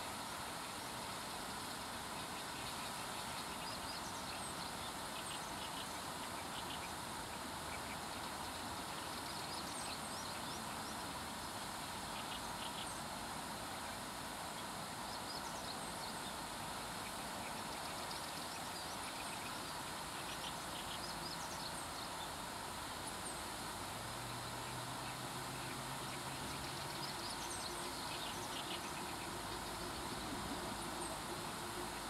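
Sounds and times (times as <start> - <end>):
small birds chirping: 1.6 - 32.0.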